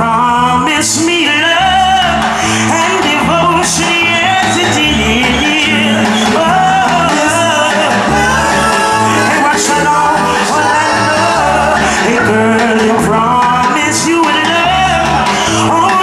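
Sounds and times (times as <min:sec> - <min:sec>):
live reggae band playing: 0:00.0 - 0:16.0
man singing: 0:00.0 - 0:16.0.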